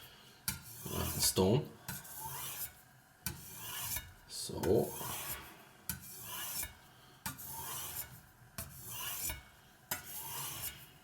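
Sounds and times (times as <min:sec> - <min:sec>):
knife scraping on sharpening stone: 0:00.5 - 0:01.3, 0:01.9 - 0:10.9.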